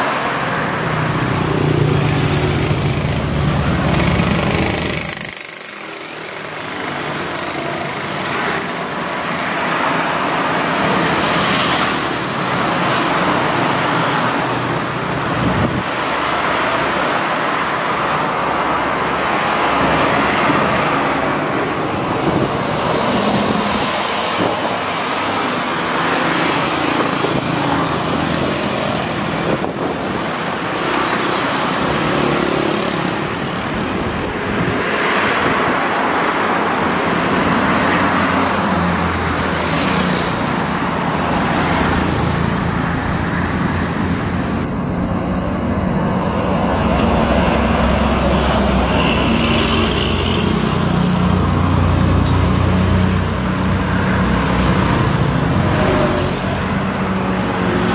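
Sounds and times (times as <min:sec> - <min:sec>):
road traffic: 0:00.0 - 0:57.9.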